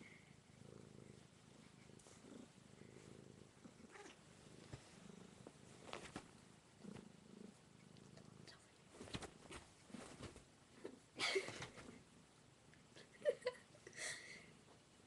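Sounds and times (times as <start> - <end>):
cat purring: 0.0 - 12.2.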